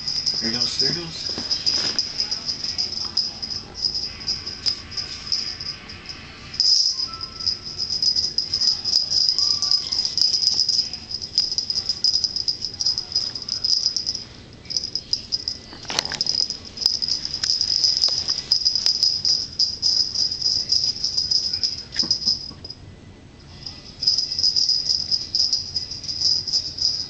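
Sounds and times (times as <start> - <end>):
toy motor buzzing and rattling: 0.0 - 22.5, 23.6 - 27.0.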